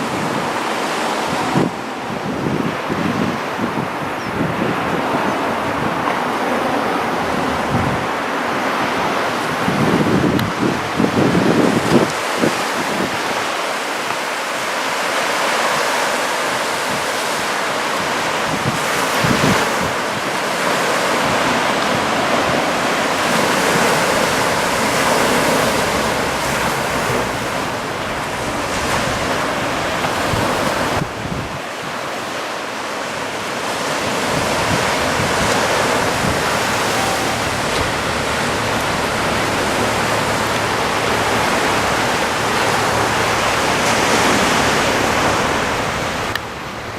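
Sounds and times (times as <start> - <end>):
small surf washing onto shore: 0.0 - 46.9
wind on microphone: 0.0 - 46.9.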